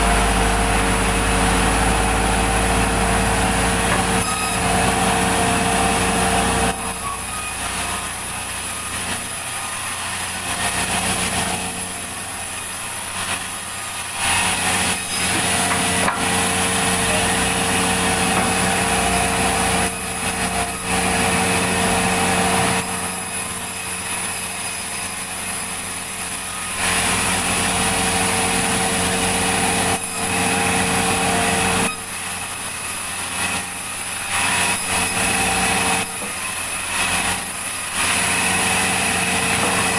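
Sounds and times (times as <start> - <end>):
saw cutting through wood: 0.0 - 39.9
sawmill machine hum: 0.0 - 39.9.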